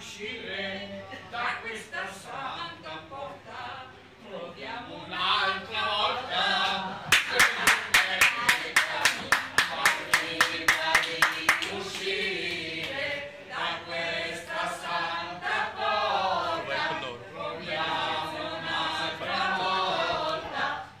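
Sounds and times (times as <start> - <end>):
group of people singing: 0.0 - 21.0.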